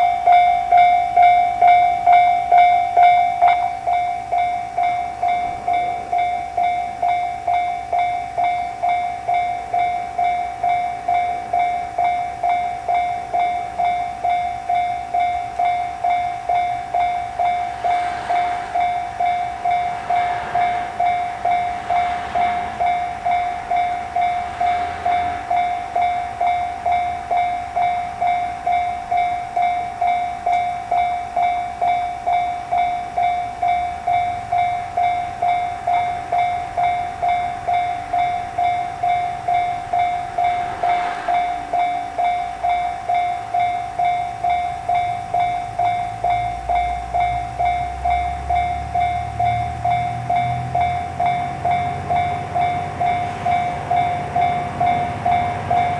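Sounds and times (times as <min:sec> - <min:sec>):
level-crossing bell clanging: 0:00.0 - 0:55.9.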